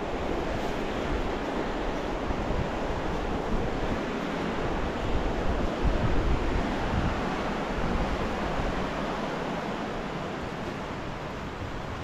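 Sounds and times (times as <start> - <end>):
fast mountain river rushing: 0.0 - 12.0
wind rumble on microphone: 0.0 - 12.0.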